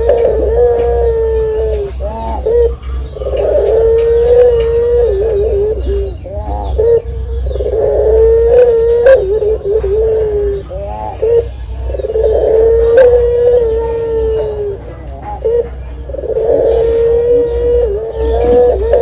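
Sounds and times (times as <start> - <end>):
collared dove cooing: 0.0 - 19.0.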